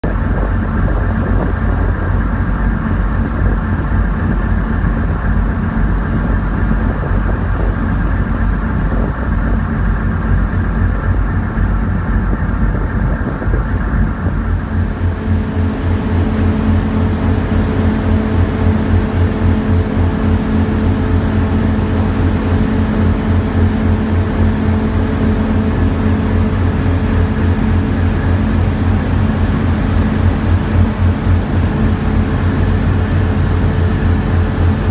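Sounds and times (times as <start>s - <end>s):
tugboat engines rumbling: 0.0s - 34.9s
wind: 0.0s - 34.9s.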